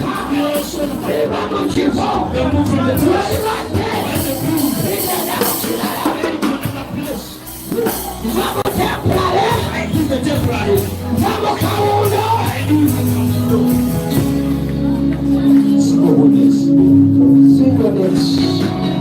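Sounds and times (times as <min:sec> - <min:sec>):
music with singing voices: 0:00.0 - 0:19.0.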